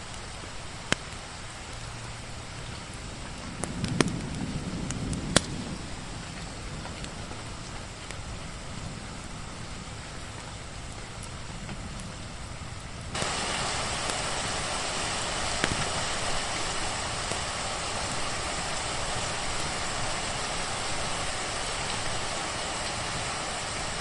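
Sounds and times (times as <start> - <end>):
rain hissing: 0.0 - 24.0.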